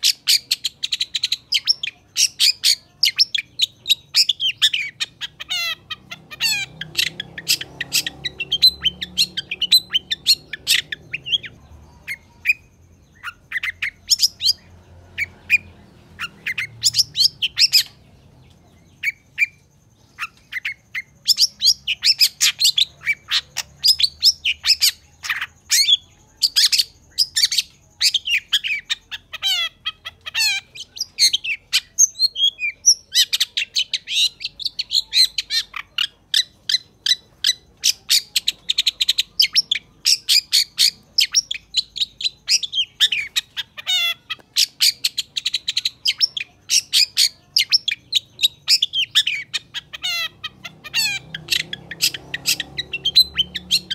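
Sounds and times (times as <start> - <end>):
bird singing fast chatter: 0.0 - 53.9.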